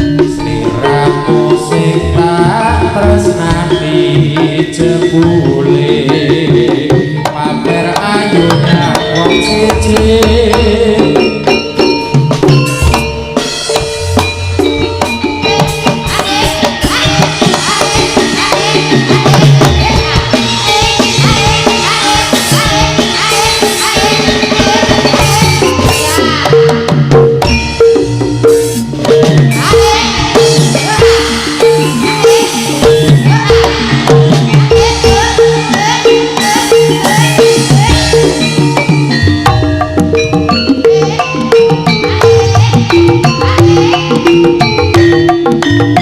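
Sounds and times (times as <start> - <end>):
band drums and percussion: 0.0 - 46.0.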